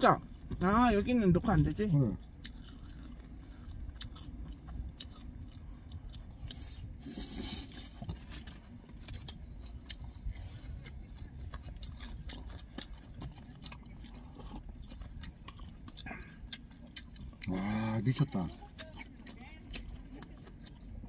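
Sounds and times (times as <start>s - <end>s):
low hum: 0.0s - 21.0s
person chewing food: 0.2s - 0.8s, 1.4s - 21.0s.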